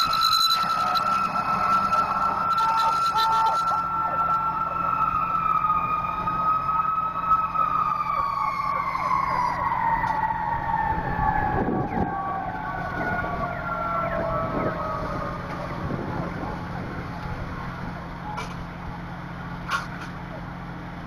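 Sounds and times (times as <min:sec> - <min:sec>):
fire engine siren: 0:00.0 - 0:21.0.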